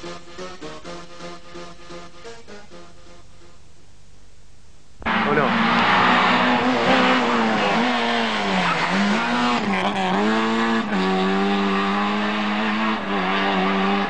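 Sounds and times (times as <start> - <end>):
rally car engine revving: 0.0 - 3.6, 5.0 - 14.0.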